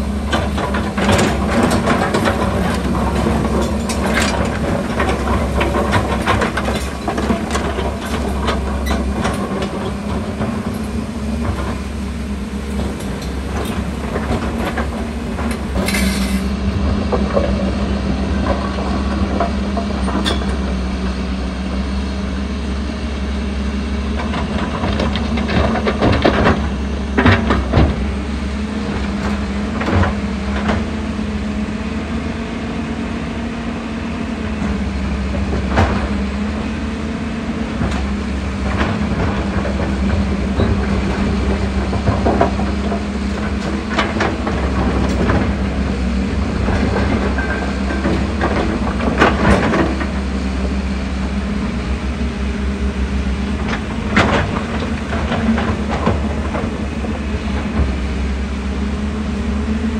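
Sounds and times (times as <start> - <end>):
excavator diesel engine humming: 0.0 - 59.9.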